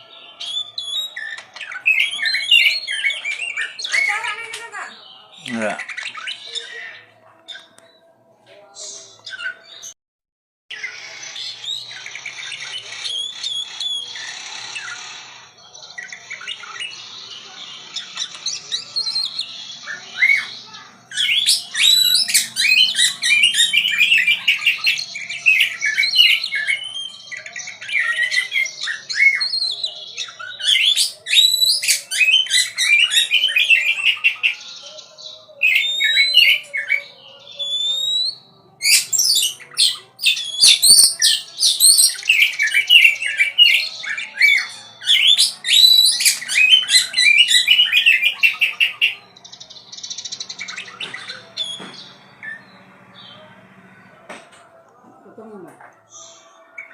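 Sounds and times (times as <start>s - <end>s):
songbird singing: 10.7s - 56.9s.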